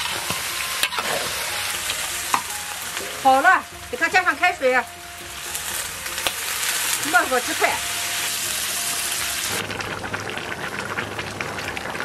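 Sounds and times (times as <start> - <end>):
water hissing in hot wok: 0.0 - 4.8, 5.4 - 12.0.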